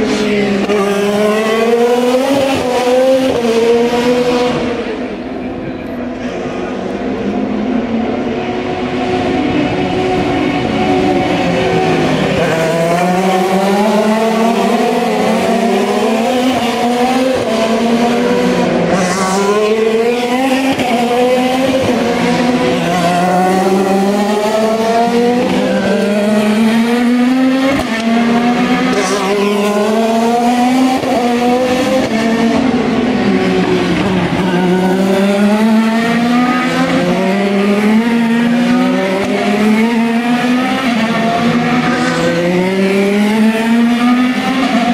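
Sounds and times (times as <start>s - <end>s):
race car engines accelerating past: 0.0s - 5.3s, 6.0s - 44.9s.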